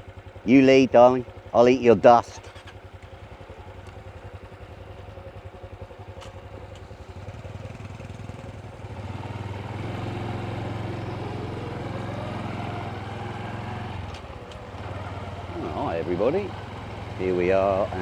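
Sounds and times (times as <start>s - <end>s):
motorcycle engine pulling away: 2.3s - 18.0s.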